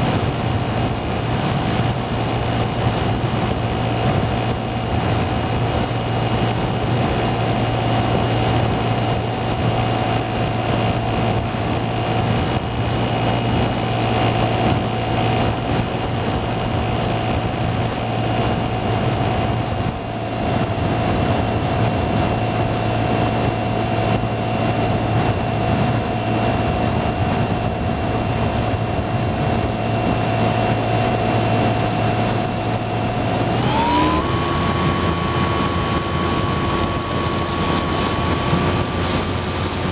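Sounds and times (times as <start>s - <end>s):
model plane motor whine: 0.0s - 39.9s
rushing air: 0.0s - 39.9s.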